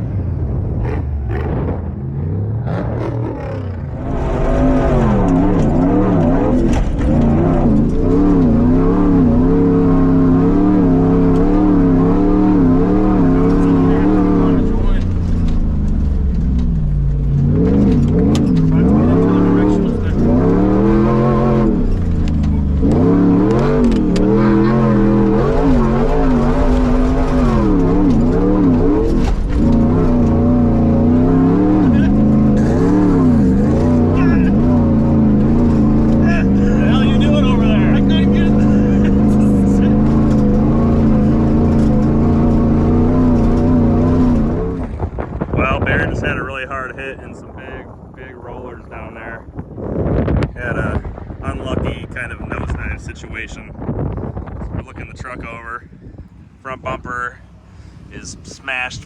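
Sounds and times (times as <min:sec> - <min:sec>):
truck engine revving: 0:00.0 - 0:55.5.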